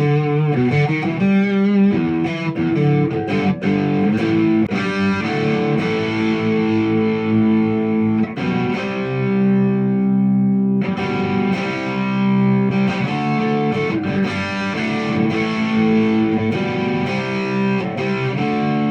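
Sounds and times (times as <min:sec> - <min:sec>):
distorted electric guitar chords: 0:00.0 - 0:18.9.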